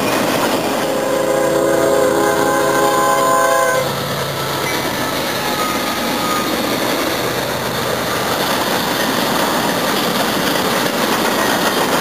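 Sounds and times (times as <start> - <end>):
freight train passing: 0.0 - 12.0.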